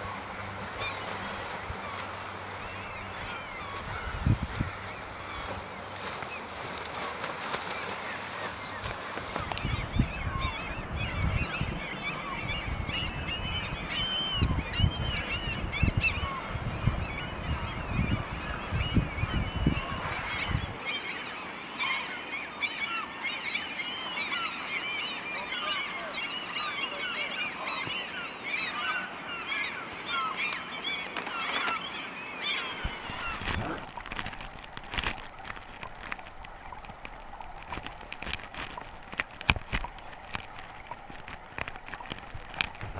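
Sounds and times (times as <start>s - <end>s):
flock of gulls calling: 1.8s - 42.9s.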